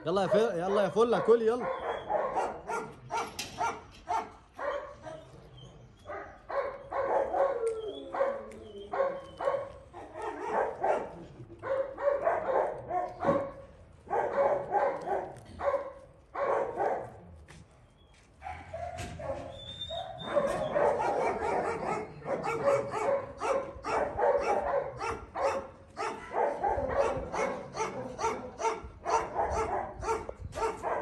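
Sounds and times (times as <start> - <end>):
dogs barking: 0.0 - 17.3, 18.4 - 31.0.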